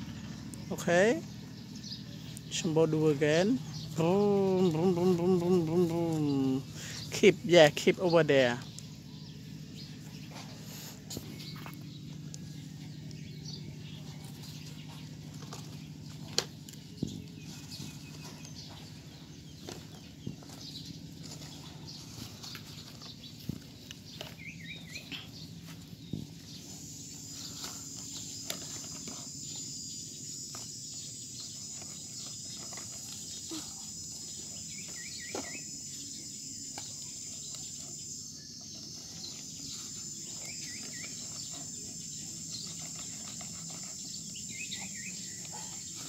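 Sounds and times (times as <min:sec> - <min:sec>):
high-pitched insect drone: 0:00.0 - 0:18.8, 0:24.3 - 0:46.0
bird calling: 0:00.0 - 0:46.0.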